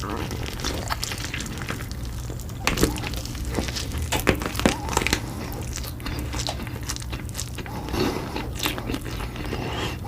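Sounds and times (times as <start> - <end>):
person biting and chewing food: 0.0 - 10.0.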